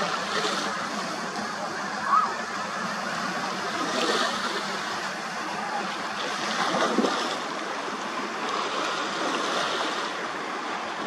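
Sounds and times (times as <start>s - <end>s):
choppy sea water: 0.0s - 11.0s
wind: 0.0s - 11.0s.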